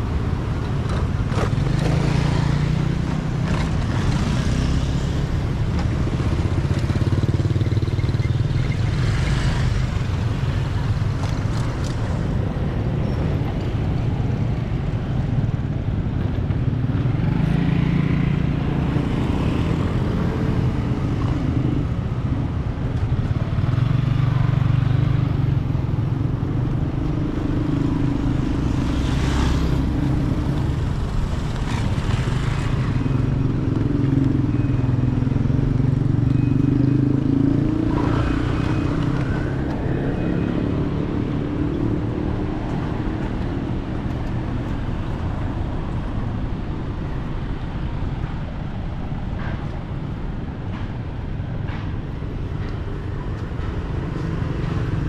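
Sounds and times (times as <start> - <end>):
motorcycles and cars driving past: 0.0 - 55.0.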